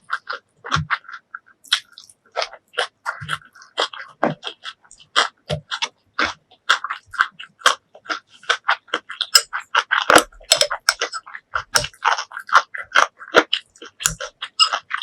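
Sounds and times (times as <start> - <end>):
chewing with wet mouth smacks: 0.0 - 15.0.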